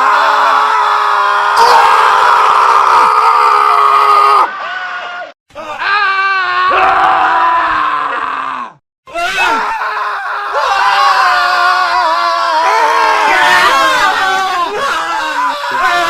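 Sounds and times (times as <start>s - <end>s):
men screaming: 0.0s - 16.0s.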